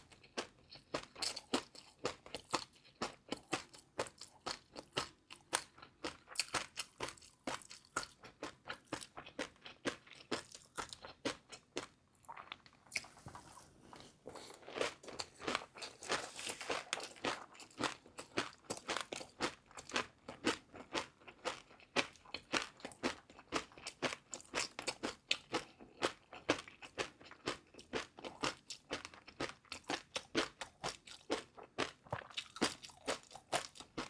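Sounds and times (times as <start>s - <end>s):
chewing crunchy food: 0.0s - 34.0s.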